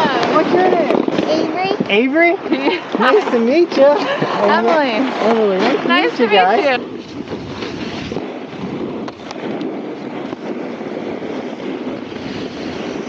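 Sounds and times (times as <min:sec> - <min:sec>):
snowboard scraping over snow: 0:00.0 - 0:13.0
wind on microphone: 0:00.0 - 0:13.0.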